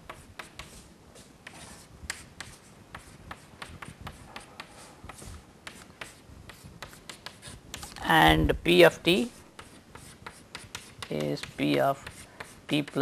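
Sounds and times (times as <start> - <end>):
chalk tapping and scratching: 0.0 - 8.1, 9.2 - 13.0.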